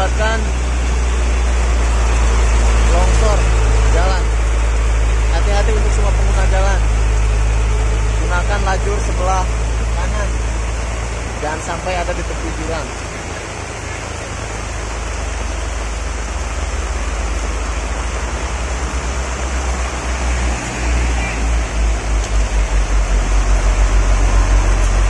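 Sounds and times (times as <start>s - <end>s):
heavy rain: 0.0s - 25.0s
low pulsing rumble: 0.0s - 25.0s
water pouring over road edge: 0.0s - 25.0s.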